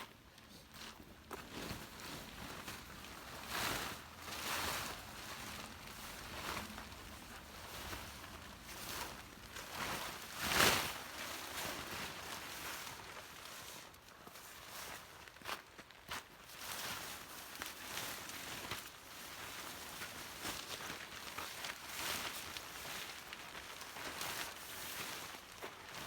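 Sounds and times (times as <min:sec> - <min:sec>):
nylon tent fabric rustling: 0:00.7 - 0:26.0.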